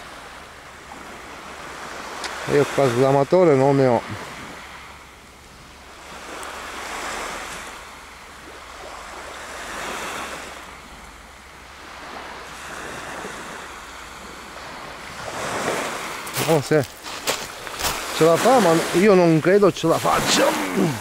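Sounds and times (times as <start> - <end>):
small waves breaking on beach: 0.0 - 21.0.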